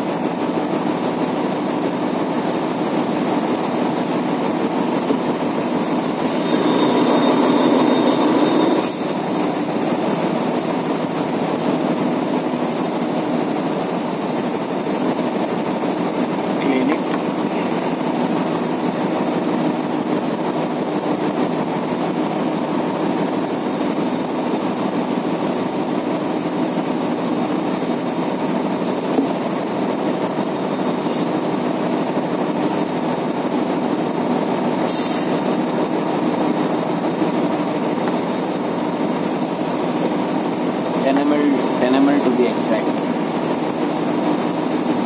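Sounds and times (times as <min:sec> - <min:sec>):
machinery and ventilation hum: 0:00.0 - 0:45.0.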